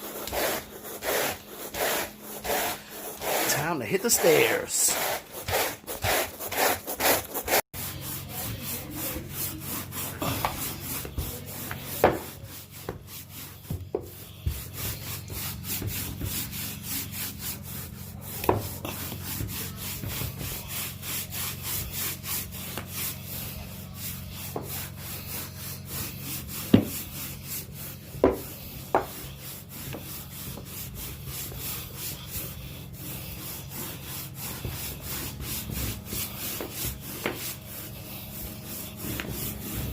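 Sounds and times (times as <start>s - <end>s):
brush scrubbing carpet: 0.0s - 39.9s.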